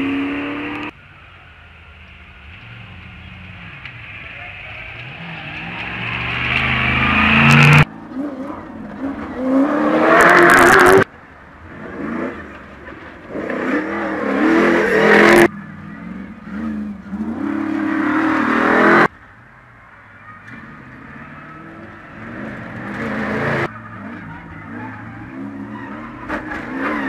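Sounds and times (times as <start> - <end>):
off-road engines revving: 0.0 - 1.0, 2.0 - 19.1, 20.4 - 27.0.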